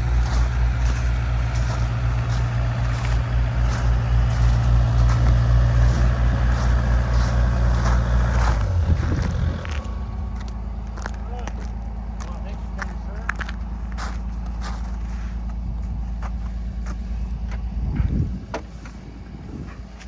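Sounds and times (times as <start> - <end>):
road noise: 0.0 - 20.0
truck engine droning: 0.0 - 20.0.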